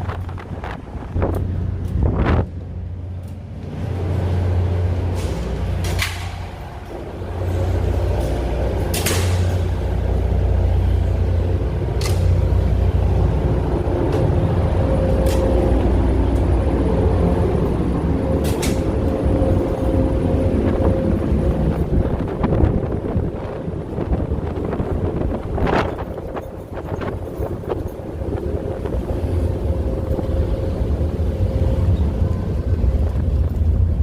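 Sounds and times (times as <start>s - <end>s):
ferry engines rumbling: 0.0s - 34.0s.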